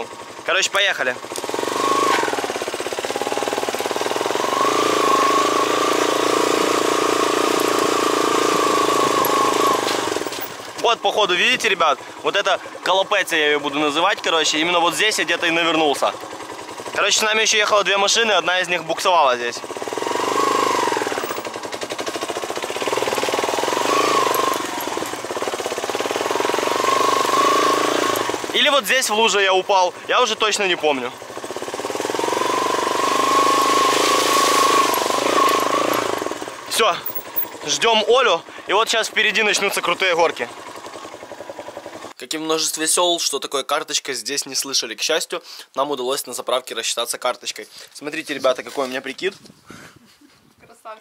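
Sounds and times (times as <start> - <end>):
motorcycle engine running: 0.0 - 42.2.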